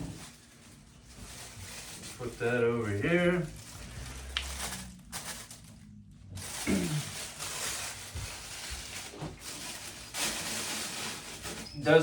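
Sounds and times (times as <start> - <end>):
tissue and padding rustling: 0.0 - 5.8, 6.4 - 12.0.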